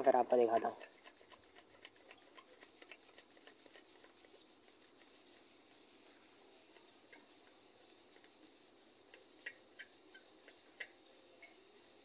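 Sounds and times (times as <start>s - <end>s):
seed rustling in steel colander: 0.0s - 12.0s.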